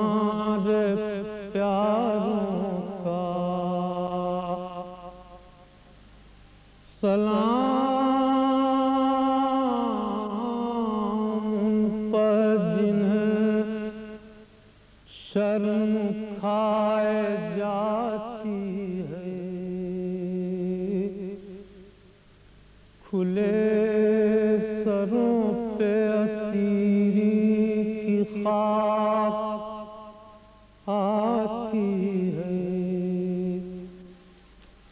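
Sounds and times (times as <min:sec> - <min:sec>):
man chanting: 0:00.0 - 0:05.6, 0:06.9 - 0:14.4, 0:15.1 - 0:21.6, 0:23.0 - 0:34.2.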